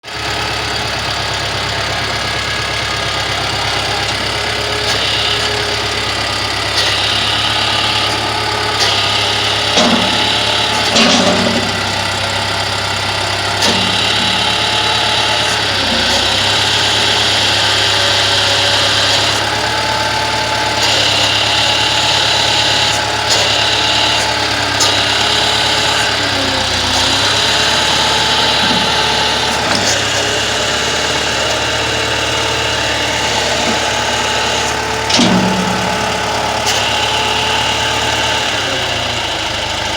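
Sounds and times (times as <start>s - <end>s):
tractor engine running: 0.0s - 39.9s
hydraulic hiss: 3.0s - 39.0s.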